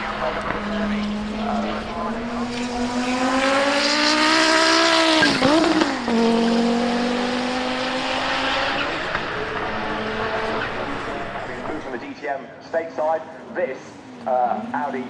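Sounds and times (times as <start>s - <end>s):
racing car engine revving: 0.0s - 12.1s.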